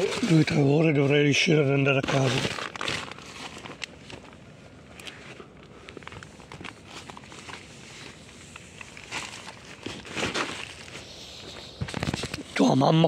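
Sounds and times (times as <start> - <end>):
tent nylon and tarp rustling: 0.0 - 13.0
light crinkles and ticks: 1.9 - 12.7.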